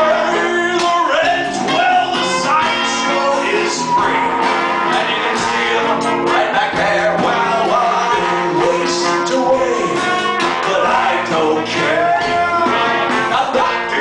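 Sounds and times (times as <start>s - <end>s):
live band music: 0.0s - 14.0s
person singing: 0.0s - 14.0s.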